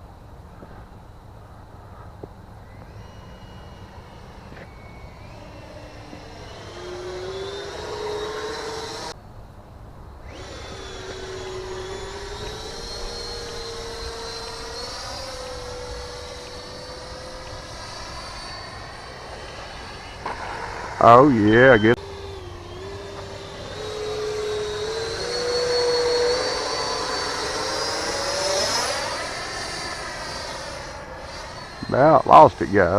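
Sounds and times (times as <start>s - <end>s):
small motor whining: 1.7s - 9.2s, 10.1s - 32.9s.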